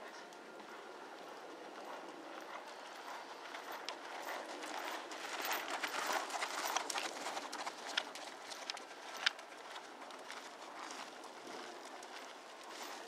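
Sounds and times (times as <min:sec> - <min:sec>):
horse hoofbeats on sand: 0:00.6 - 0:13.0.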